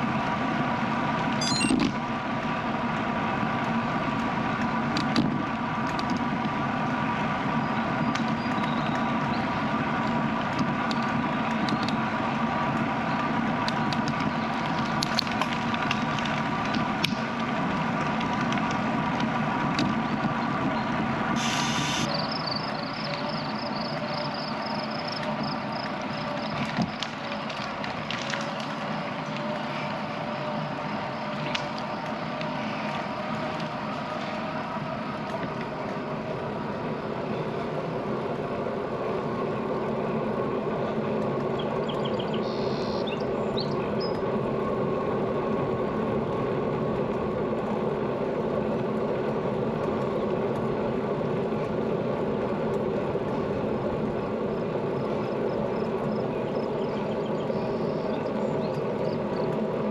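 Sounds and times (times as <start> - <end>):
bicycle tyres and drivetrain hum: 0.0 - 59.9.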